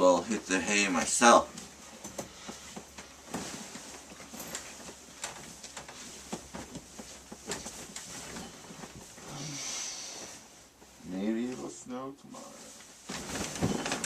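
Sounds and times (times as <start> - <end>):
soft hiss: 0.0 - 14.0
rustling: 0.5 - 14.0.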